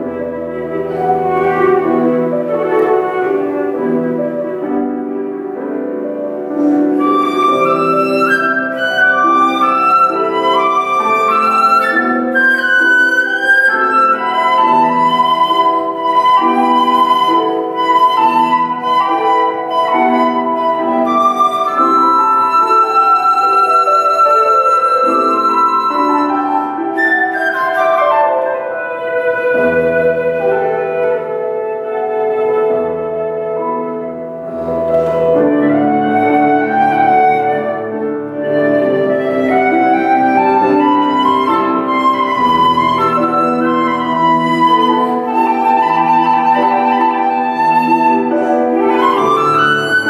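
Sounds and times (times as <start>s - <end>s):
flute melody: 0.0s - 50.0s.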